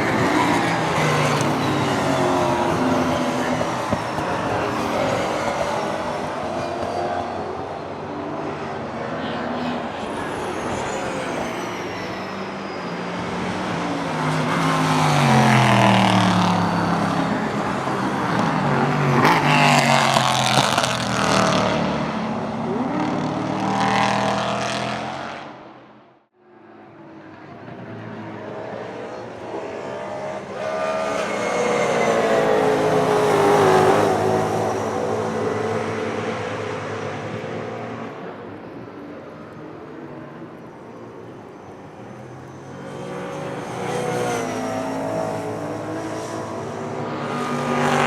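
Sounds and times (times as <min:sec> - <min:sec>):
racing cars passing at speed: 0:00.0 - 0:48.0.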